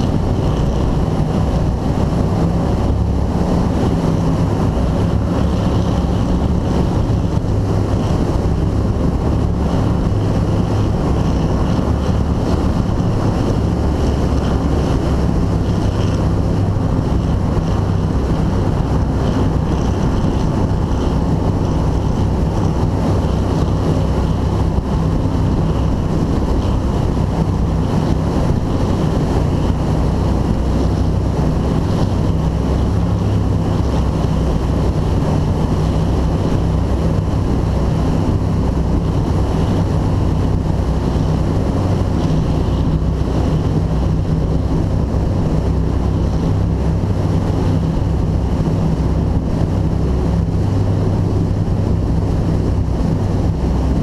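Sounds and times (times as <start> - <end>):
powerboat engine drone: 0.0 - 54.0
water rushing past hull: 0.0 - 54.0
wind buffeting microphone: 0.0 - 54.0.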